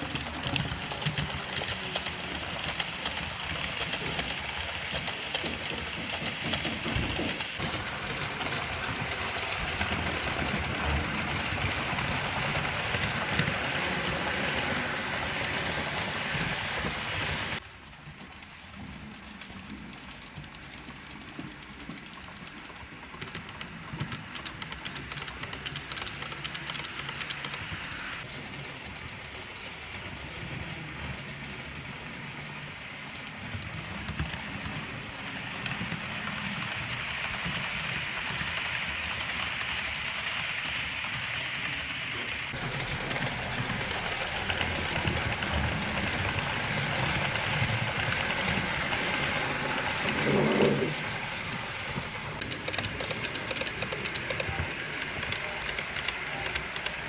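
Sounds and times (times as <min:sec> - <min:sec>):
model train wheels rattling: 0:00.0 - 0:57.0.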